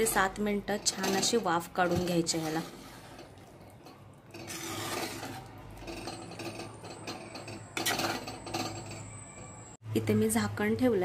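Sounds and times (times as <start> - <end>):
spoon scraping clay pot: 0.0 - 9.2.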